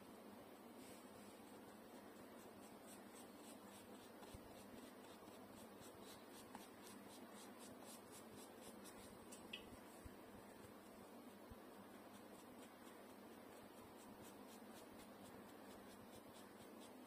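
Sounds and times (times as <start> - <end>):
low room hiss: 0.0 - 17.0
paintbrush scratching on paper: 0.6 - 17.0.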